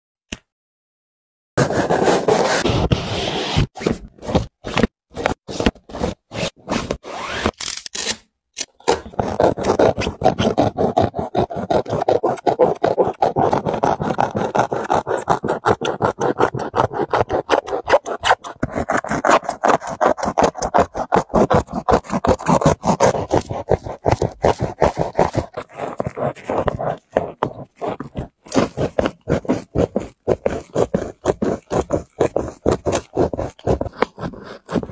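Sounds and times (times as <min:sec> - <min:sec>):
utility knife scraping: 0:01.6 - 0:34.9.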